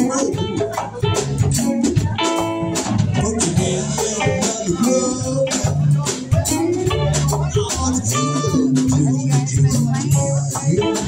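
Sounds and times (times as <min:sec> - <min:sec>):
bass guitar: 0:00.0 - 0:11.0
conga drums: 0:00.0 - 0:11.0
drums: 0:00.0 - 0:11.0
electric guitar: 0:00.0 - 0:11.0.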